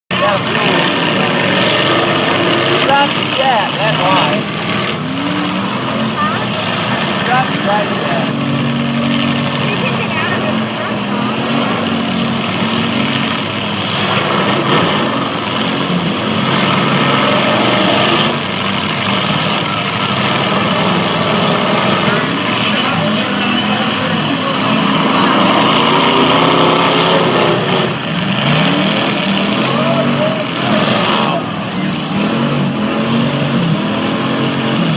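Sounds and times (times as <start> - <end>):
car engines revving loudly: 0.0 - 34.9.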